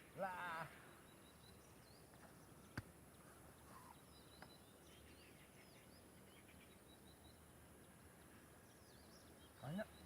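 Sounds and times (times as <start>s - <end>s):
faint bird chirps: 0.8s - 10.0s.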